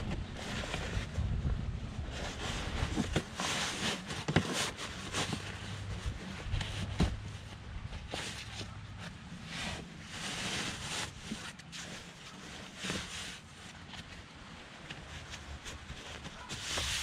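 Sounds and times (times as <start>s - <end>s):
fabric rustling and scraping: 0.0s - 17.0s.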